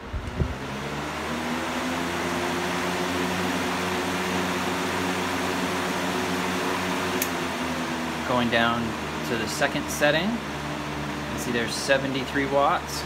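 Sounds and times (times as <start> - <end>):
box fan whooshing and humming: 0.0 - 13.0.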